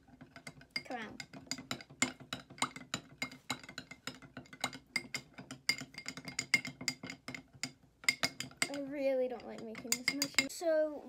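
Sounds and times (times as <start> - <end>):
metal spoon clinking on glass bowl: 0.3 - 10.5.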